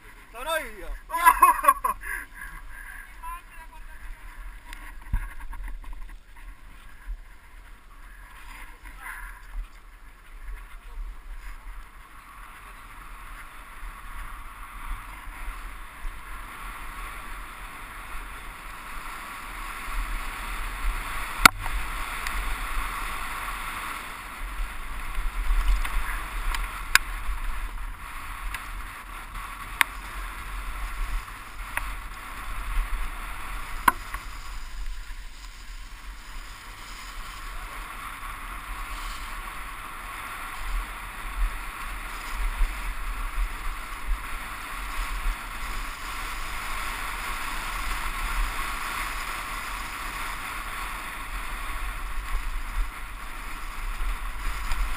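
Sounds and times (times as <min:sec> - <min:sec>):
bike tyres on dirt track: 0:00.0 - 0:54.9
wind rushing over camera: 0:00.0 - 0:54.9.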